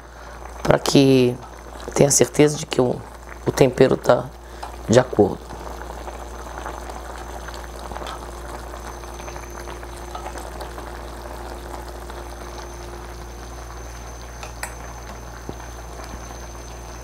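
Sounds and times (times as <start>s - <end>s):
broth bubbling and crackling: 0.0s - 17.0s.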